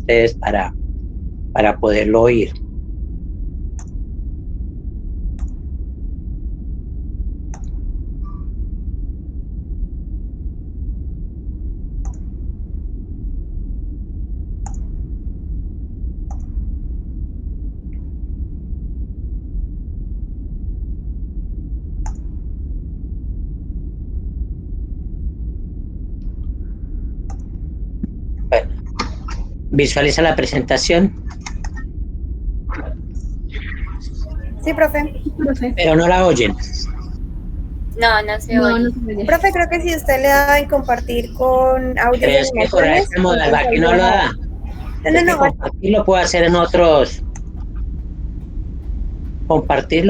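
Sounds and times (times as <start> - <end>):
low room noise hum: 0.0 - 50.0.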